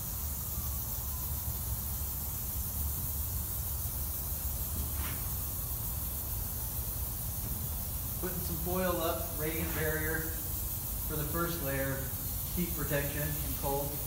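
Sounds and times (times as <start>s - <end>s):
aerosol can hissing: 0.0s - 14.0s.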